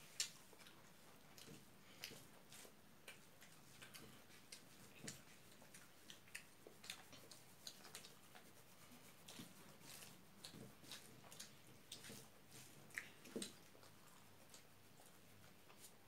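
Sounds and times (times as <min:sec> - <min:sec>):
chewing and lip smacks: 0:00.0 - 0:16.0.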